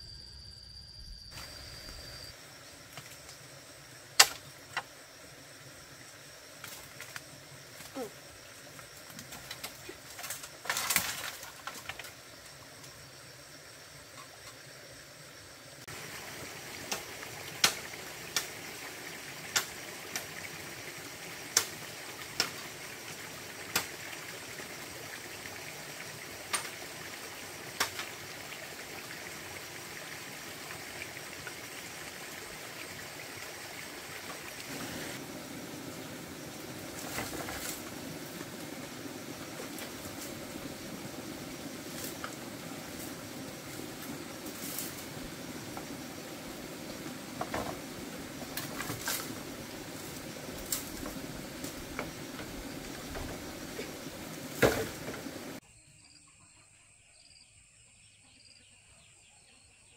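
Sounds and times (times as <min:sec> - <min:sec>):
steady background hiss: 0:00.0 - 0:55.6.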